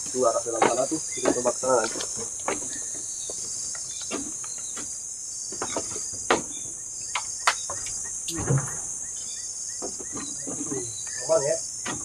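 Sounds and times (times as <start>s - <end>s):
forest insects chorus: 0.0s - 12.0s.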